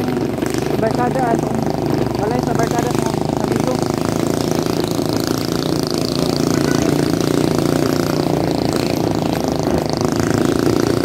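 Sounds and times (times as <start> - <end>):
road and wind noise: 0.0 - 11.0
small motorcycle engine: 0.0 - 11.0.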